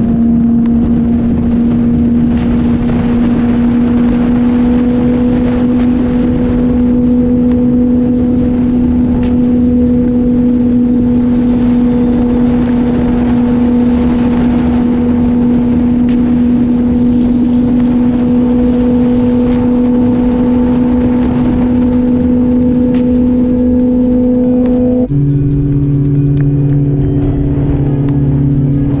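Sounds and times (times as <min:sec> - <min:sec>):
motorcycle engine cruising: 0:00.0 - 0:29.0
wind rushing: 0:00.0 - 0:29.0.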